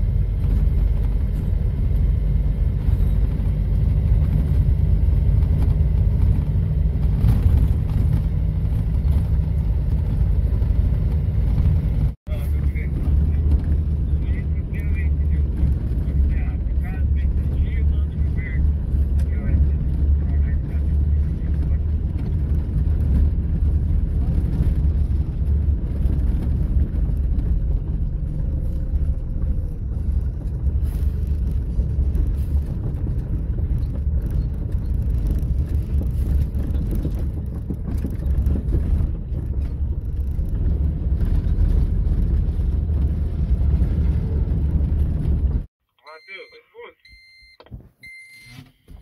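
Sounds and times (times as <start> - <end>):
truck engine drone: 0.0 - 47.5
tyres on dirt road: 0.0 - 49.0
knocks and rattles: 0.2 - 45.7.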